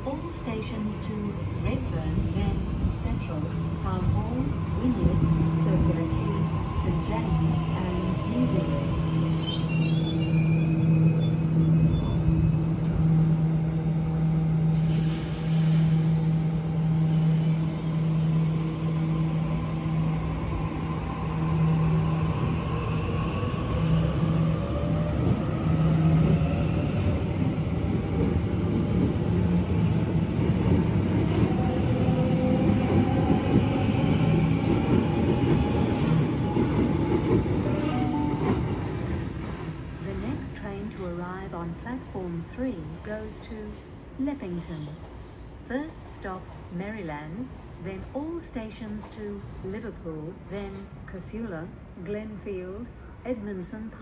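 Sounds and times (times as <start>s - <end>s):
electric train hum: 0.0s - 48.4s.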